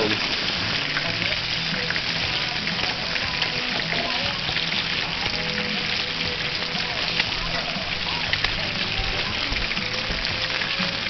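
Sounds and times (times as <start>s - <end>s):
fish sizzling in a skillet: 0.0s - 11.0s.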